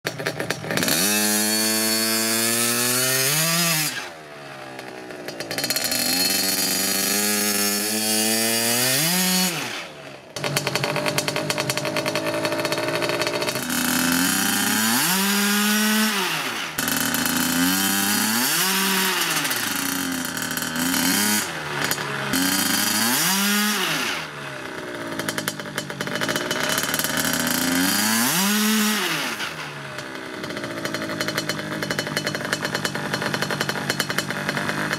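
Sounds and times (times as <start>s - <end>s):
motocross bike engine revving: 0.1s - 34.9s
wheel spinning in loose dirt: 0.1s - 34.9s.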